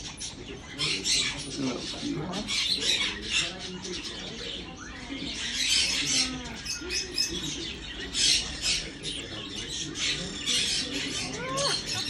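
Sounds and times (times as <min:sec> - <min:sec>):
marmosets chirping: 0:00.0 - 0:12.0.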